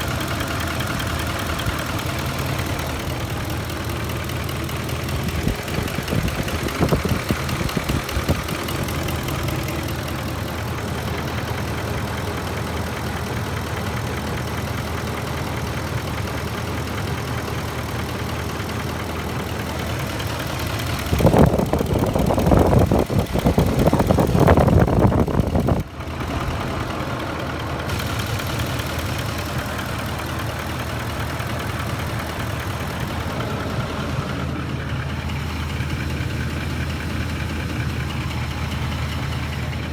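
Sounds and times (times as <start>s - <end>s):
engine idling with light knocking: 0.0s - 39.9s.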